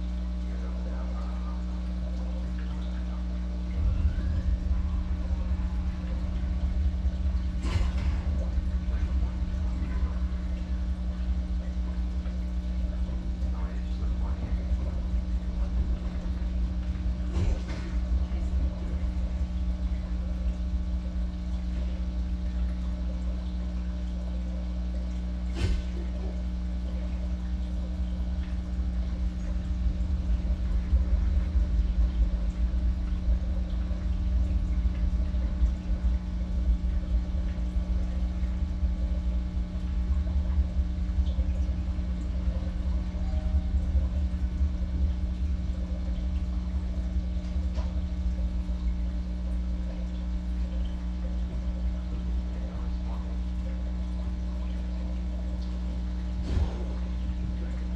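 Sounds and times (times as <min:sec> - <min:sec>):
aquarium filter hum: 0:00.0 - 0:57.9
water bubbling: 0:00.0 - 0:57.9.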